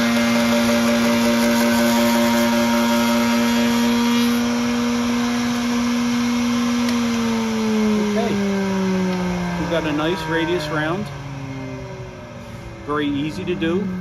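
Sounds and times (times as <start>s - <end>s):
router whining: 0.0s - 14.0s.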